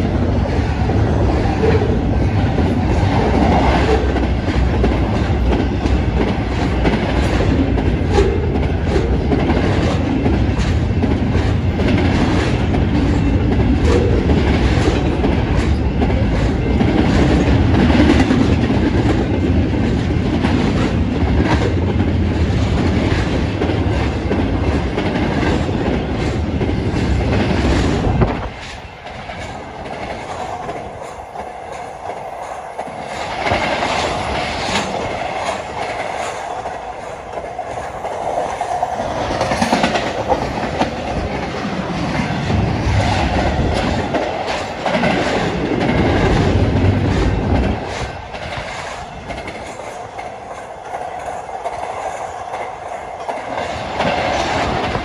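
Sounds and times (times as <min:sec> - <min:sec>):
freight train wheels on rail: 0:00.0 - 0:55.0.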